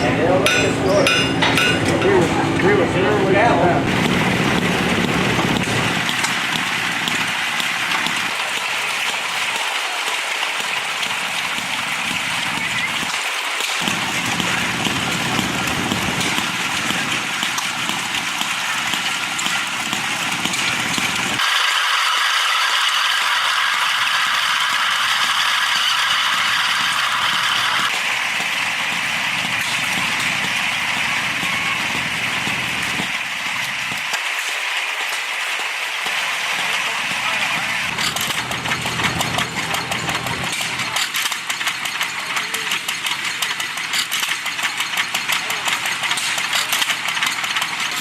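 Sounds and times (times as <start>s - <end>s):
small gas engines rattling: 0.0s - 48.0s.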